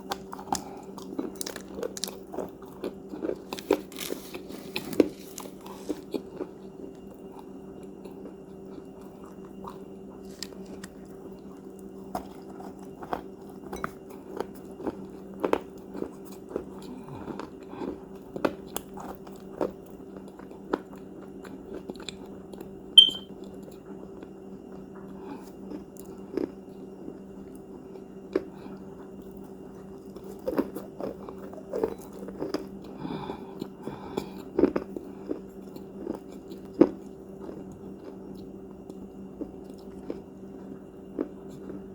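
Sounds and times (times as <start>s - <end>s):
crunchy cookies being chewed: 0.0s - 41.9s.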